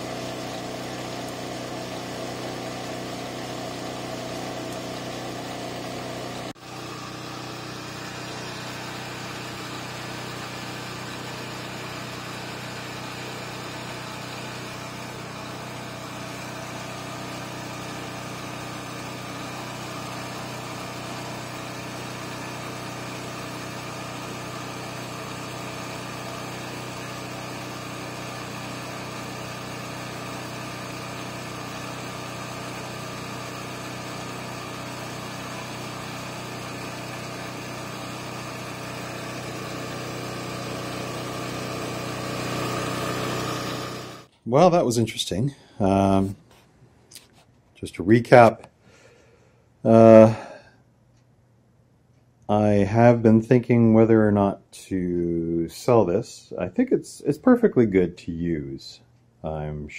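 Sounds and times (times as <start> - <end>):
generator engine droning: 0.0 - 46.4, 47.8 - 50.7.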